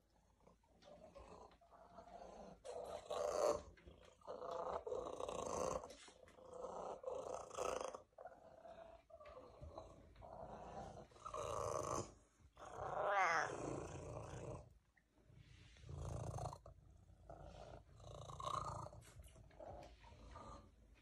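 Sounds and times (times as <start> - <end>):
cat purring loudly: 0.2 - 14.8, 15.7 - 20.8.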